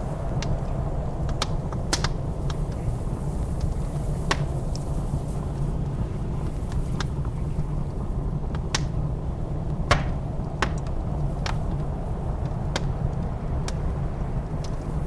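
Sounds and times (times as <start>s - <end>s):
blizzard wind roaring: 0.0s - 15.0s
log fire crackling and popping: 0.0s - 15.0s.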